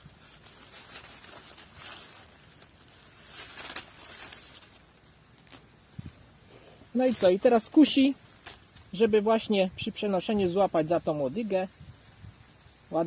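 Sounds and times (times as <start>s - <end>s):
dry vines and leaves rustling: 0.0s - 13.0s.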